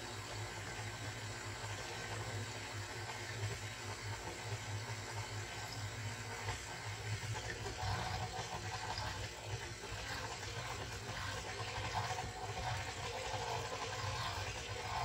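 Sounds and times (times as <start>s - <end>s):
stand mixer humming: 0.0s - 15.0s.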